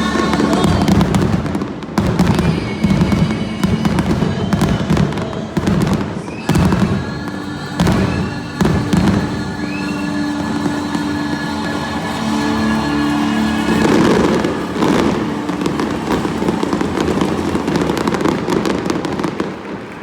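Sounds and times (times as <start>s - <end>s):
fireworks bangs and booms: 0.0s - 20.0s
music: 0.0s - 20.0s.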